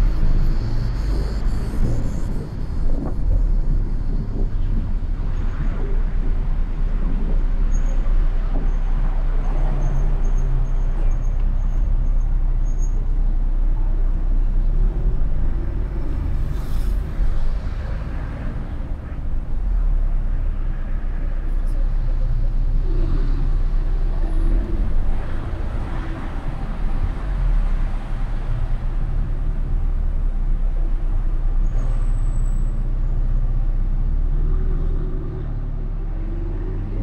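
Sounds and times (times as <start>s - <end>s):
car engine and tyre rumble: 0.0s - 37.0s
surrounding traffic: 0.0s - 37.0s.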